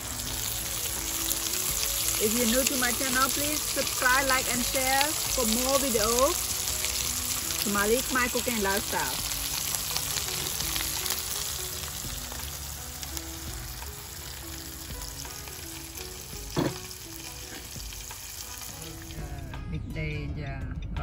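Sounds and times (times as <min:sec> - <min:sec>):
meat sizzling on grill pan: 0:00.0 - 0:19.4.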